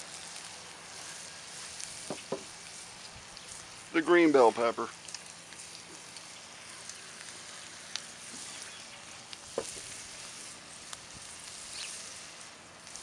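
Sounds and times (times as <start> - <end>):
meat and vegetables sizzling: 0.0 - 13.0.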